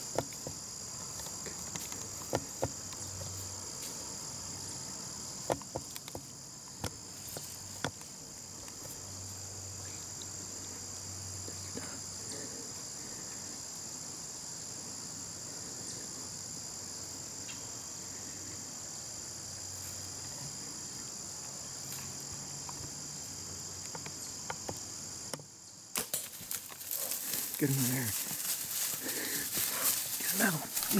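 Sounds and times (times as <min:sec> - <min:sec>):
insects trilling: 0:00.0 - 0:30.9.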